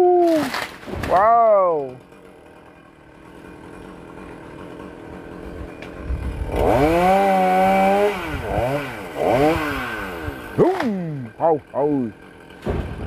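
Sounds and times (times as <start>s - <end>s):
chainsaw engine revving: 0.3s - 13.0s.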